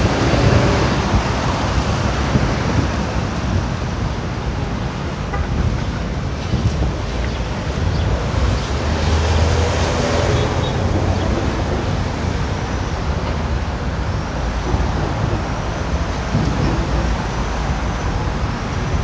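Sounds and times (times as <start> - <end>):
street traffic: 0.0 - 19.0
trucks passing close: 0.0 - 19.0
wind buffeting microphone: 0.0 - 19.0.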